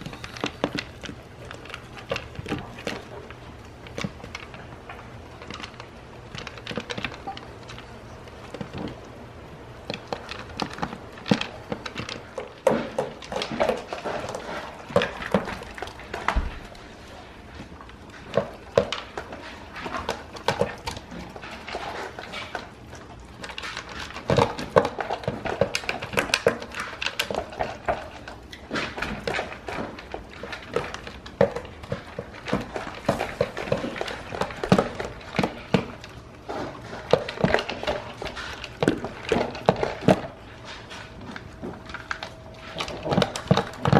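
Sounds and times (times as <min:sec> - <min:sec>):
kibble clattering on plastic bowl: 0:00.0 - 0:09.1, 0:09.8 - 0:16.8, 0:17.5 - 0:43.9
dog chewing: 0:00.0 - 0:43.9.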